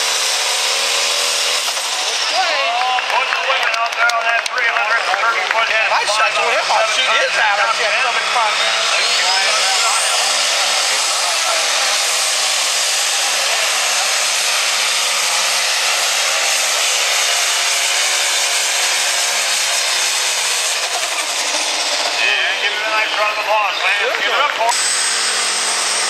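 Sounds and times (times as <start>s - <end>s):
diesel engine at full throttle: 0.0s - 26.0s
high turbo whine: 0.0s - 26.0s.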